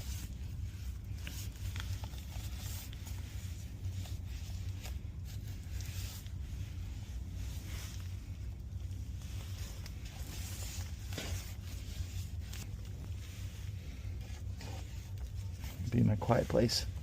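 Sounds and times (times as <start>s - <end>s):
rustling and crinkling materials: 0.0s - 17.0s
steady low hum: 0.0s - 17.0s.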